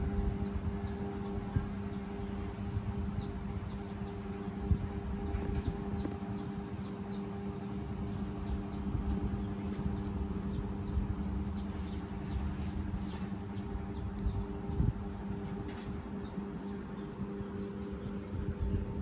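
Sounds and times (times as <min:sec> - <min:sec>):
low rumbling noise: 0:00.0 - 0:19.0
small birds chirping: 0:00.0 - 0:19.0
steady low hum: 0:00.0 - 0:19.0.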